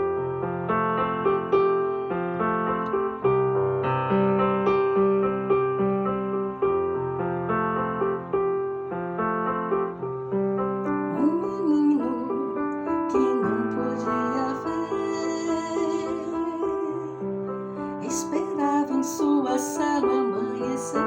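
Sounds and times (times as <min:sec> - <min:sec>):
slow gentle piano: 0:00.0 - 0:21.0.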